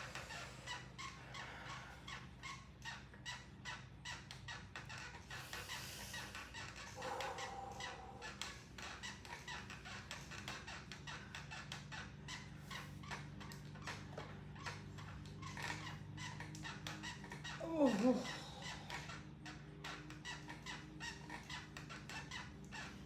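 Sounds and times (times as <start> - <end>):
exercise bike pedal squeaking: 0.0 - 23.0
flywheel hum: 0.0 - 23.0.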